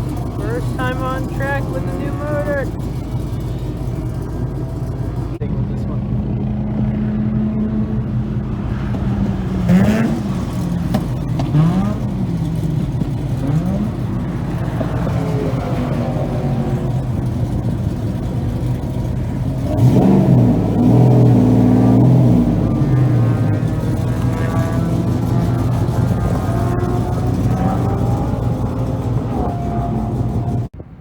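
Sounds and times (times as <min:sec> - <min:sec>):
rotary race car engine revving: 0:00.0 - 0:30.8.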